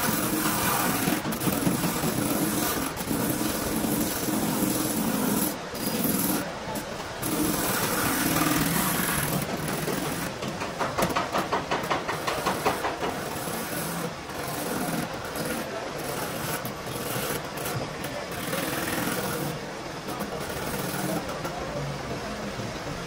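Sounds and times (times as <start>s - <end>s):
rotary buffer grinding rubber: 0.0s - 21.8s.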